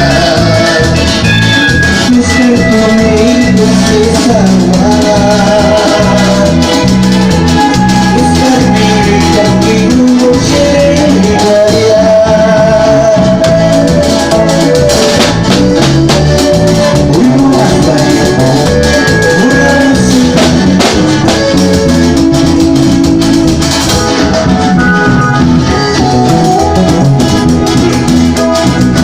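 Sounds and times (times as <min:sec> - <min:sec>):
band playing latin dance music: 0:00.0 - 0:29.0.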